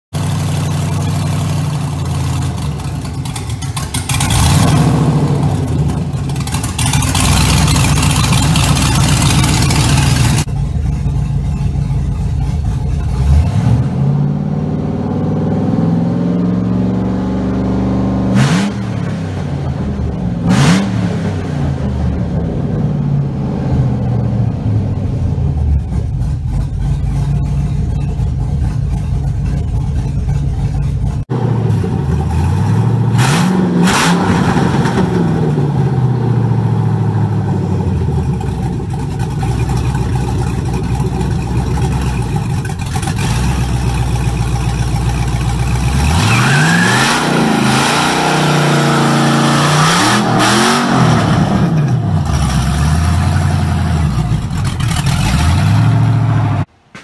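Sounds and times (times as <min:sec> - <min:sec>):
car engine revving and idling: 0:00.0 - 0:56.8.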